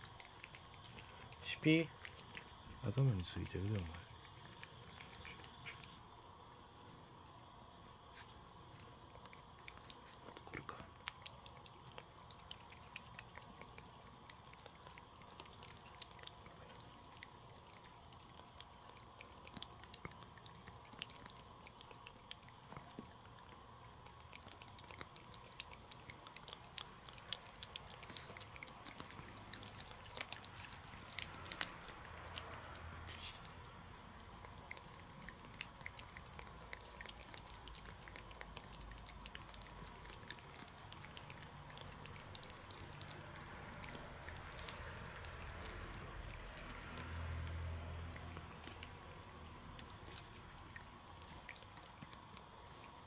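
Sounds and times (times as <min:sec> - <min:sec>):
cat licking wet clicks: 0:00.0 - 0:53.0.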